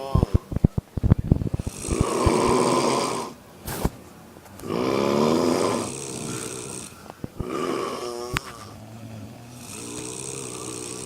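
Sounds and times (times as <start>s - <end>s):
women snoring: 0.0s - 0.6s, 1.3s - 3.9s, 4.5s - 11.0s.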